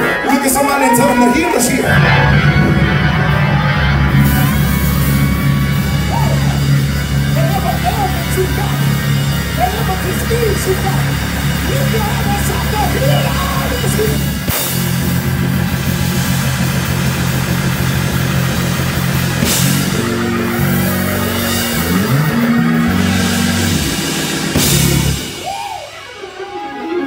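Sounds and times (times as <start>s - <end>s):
drum kit: 0.0s - 27.0s
organ chords: 0.0s - 27.0s
electric bass: 1.6s - 26.4s.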